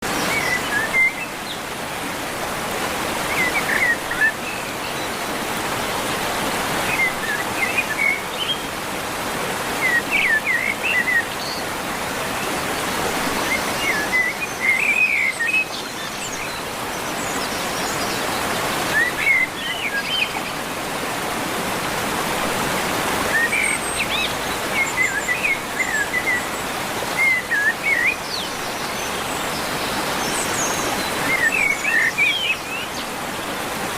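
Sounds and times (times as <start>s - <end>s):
birds chirping: 0.0s - 21.8s, 22.5s - 33.9s
river water rushing: 0.0s - 33.9s.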